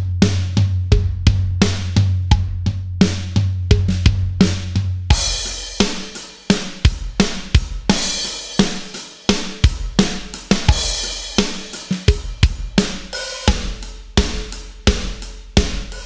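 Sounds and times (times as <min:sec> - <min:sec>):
electronic drum kit rock beat: 0:00.0 - 0:16.0.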